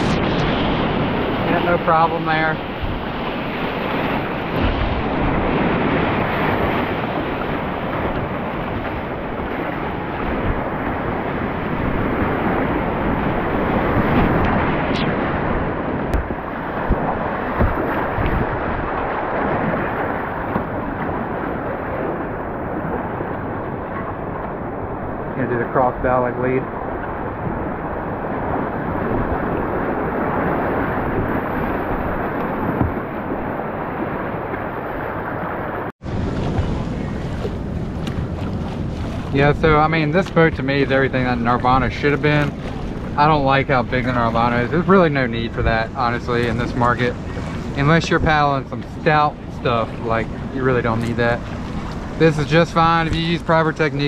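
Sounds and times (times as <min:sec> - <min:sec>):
churning whitewater rushing: 0:00.0 - 0:54.0.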